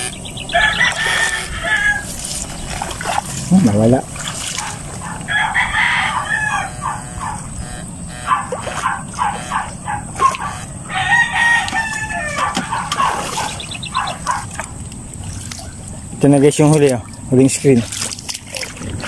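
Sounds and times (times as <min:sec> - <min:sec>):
fowl calling: 0:00.0 - 0:16.1.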